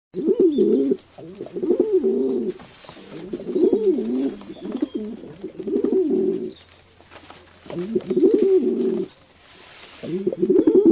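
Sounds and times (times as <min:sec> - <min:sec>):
pigeons cooing: 0:00.2 - 0:06.8, 0:07.6 - 0:10.9.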